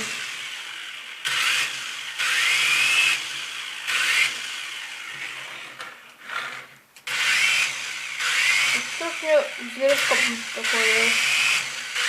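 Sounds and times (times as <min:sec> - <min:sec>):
toy helicopter motors whining: 0:00.0 - 0:12.0.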